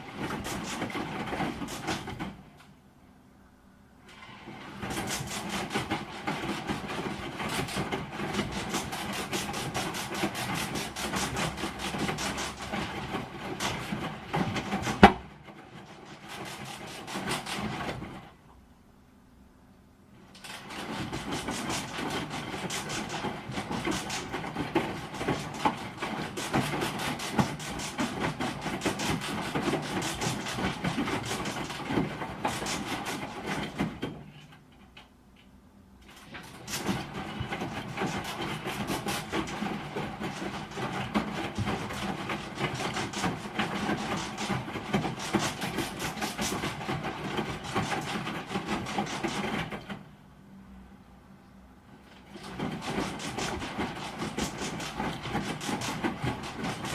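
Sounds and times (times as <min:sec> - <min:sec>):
washing machine rattling: 0:00.0 - 0:02.8, 0:04.1 - 0:18.7, 0:20.2 - 0:50.6, 0:51.9 - 0:56.9.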